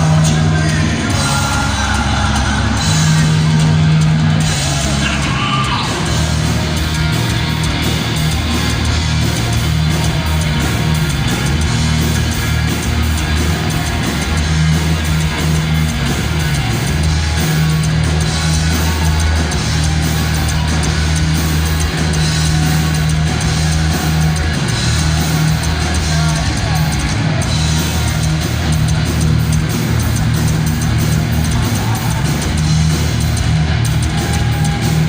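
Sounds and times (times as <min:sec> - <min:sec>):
bass guitar: 0:00.0 - 0:35.0
distorted electric guitars: 0:00.0 - 0:35.0
drum kit: 0:00.0 - 0:35.0.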